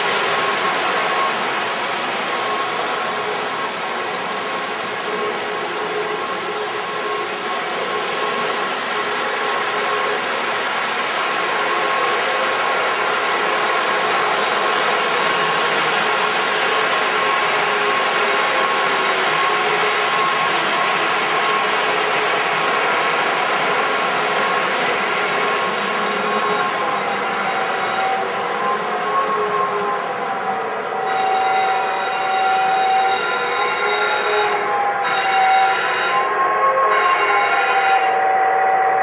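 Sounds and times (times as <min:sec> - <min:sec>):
model train whirring: 0:00.0 - 0:36.3.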